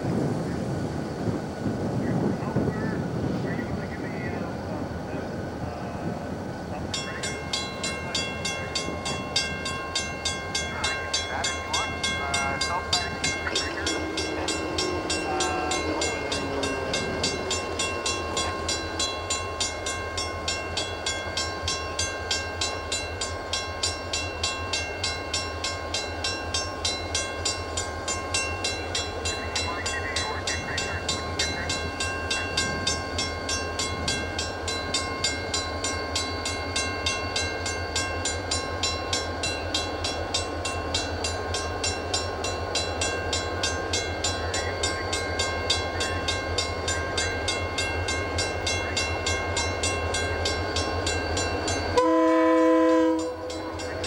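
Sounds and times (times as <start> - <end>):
diesel locomotive engines droning: 0.0 - 54.0.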